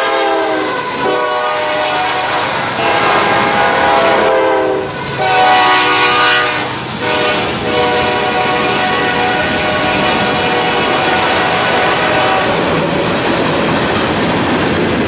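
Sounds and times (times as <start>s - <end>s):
locomotive horn chord blasts: 0.0s - 12.7s
freight train rumble and wheel noise: 0.0s - 15.0s.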